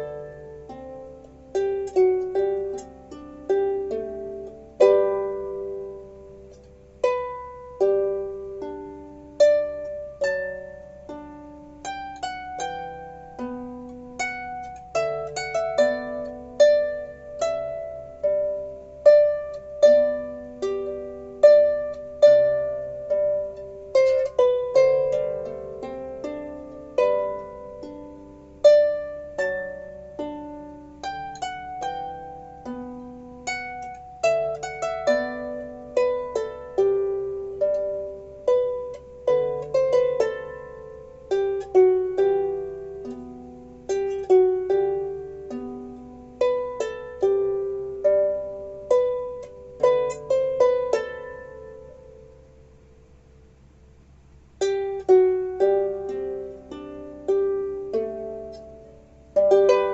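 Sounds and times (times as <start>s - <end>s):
harp playing slow melody: 0.0s - 59.9s.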